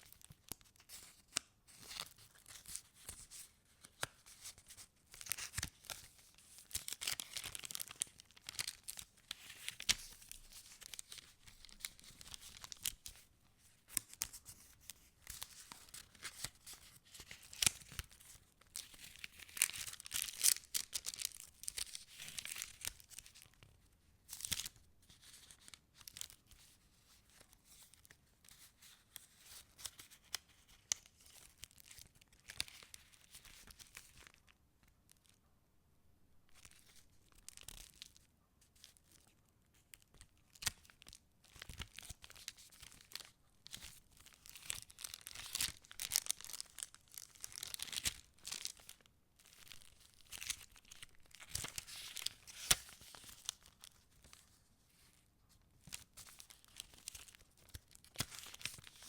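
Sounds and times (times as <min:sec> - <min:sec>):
paper rustling and crinkling: 0:00.0 - 0:23.8, 0:24.4 - 0:34.4, 0:40.2 - 0:59.0.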